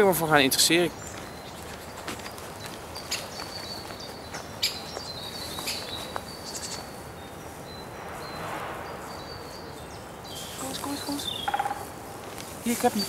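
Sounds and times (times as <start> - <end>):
woodland birds calling: 0.0 - 13.0.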